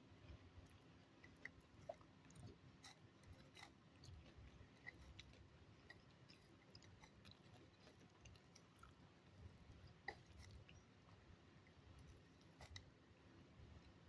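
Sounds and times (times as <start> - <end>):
chewing soft food: 0.0 - 14.0.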